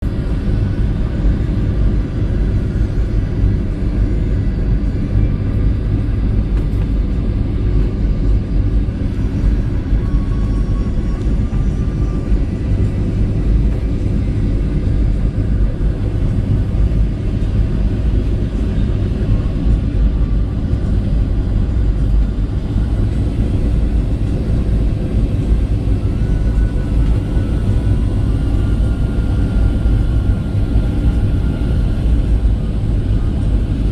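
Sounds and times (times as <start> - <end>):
airliner cabin engine rumble: 0.0 - 33.9.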